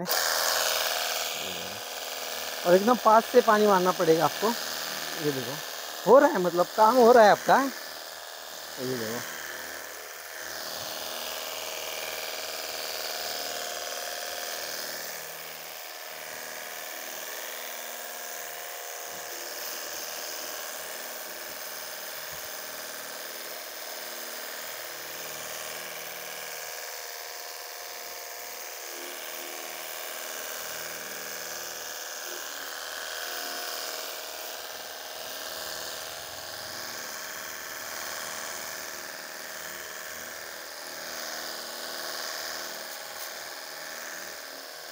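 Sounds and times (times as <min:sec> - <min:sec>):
pressure washer motor whine: 0:00.0 - 0:44.9
water spray hissing on car: 0:00.2 - 0:07.8, 0:08.6 - 0:44.9.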